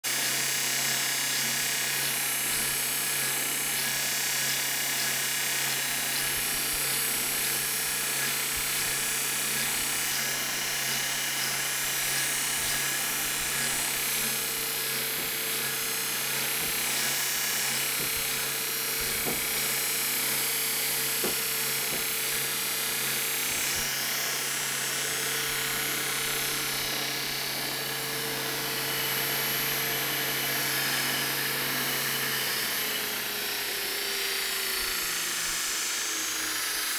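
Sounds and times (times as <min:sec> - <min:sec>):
electric motor hum: 0:00.1 - 0:36.9.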